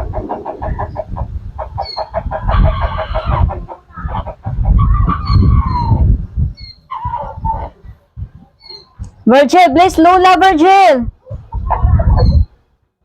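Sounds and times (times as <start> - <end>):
chickens clucking: 0.0 - 9.2, 11.2 - 12.6.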